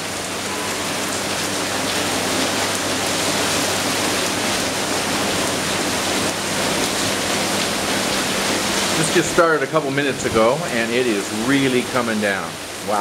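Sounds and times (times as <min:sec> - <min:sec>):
heavy rain on paving: 0:00.0 - 0:13.0.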